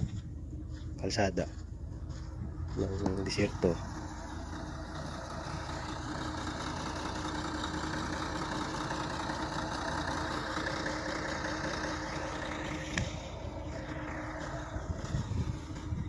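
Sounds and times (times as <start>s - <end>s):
diesel trucks idling: 0.0s - 16.0s.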